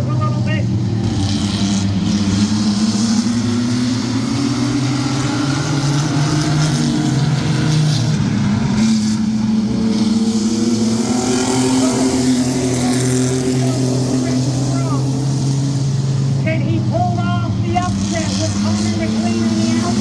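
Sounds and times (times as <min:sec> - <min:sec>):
racing truck engines droning: 0:00.0 - 0:20.0.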